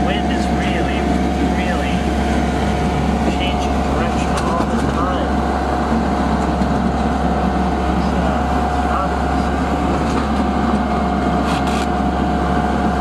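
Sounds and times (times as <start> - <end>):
sailboat rushing through water: 0.0 - 13.0
thin whine: 0.0 - 13.0.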